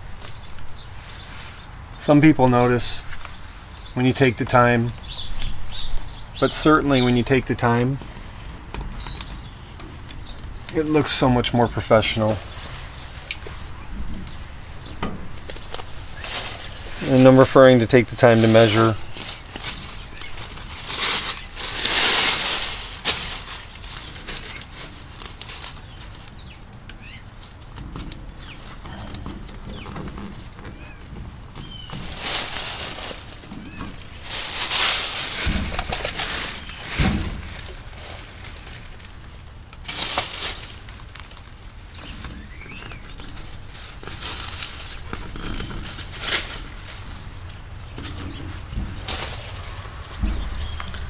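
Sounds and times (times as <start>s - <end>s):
tape rustling and crinkling: 0.0s - 51.0s.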